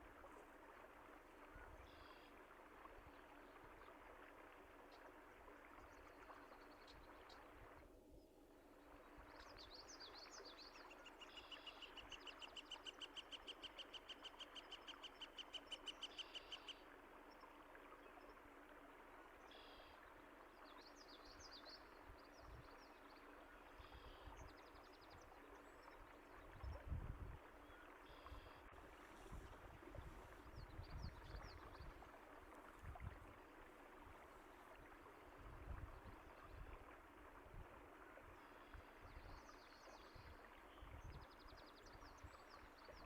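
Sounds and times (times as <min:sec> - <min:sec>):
quiet running water: 0:00.0 - 0:43.0.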